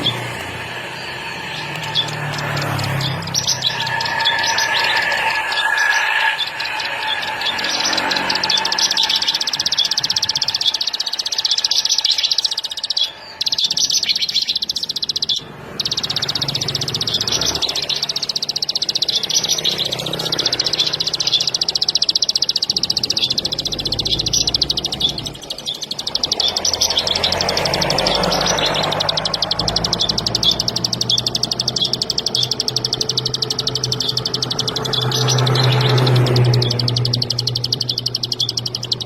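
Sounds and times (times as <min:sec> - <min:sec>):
bird fast buzzing trill: 0:00.0 - 0:39.0.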